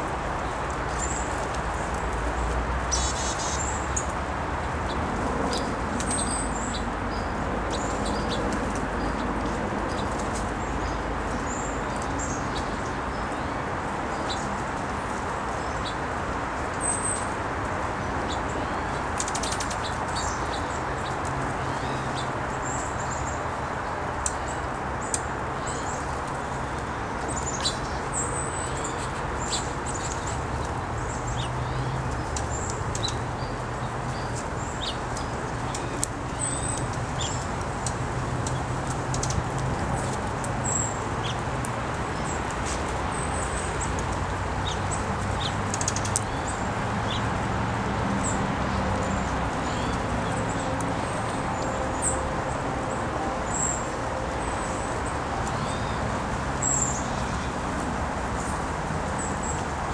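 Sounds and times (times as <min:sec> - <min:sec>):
small songbirds chirping: 0:00.0 - 0:59.7.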